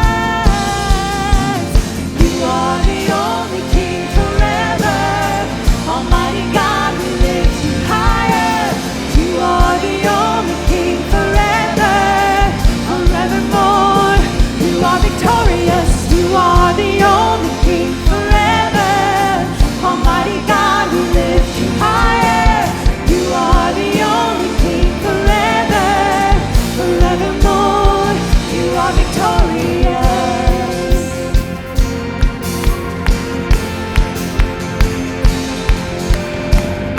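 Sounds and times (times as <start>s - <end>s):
lead vocal singing: 0.0s - 34.8s
worship band playing: 0.0s - 36.9s.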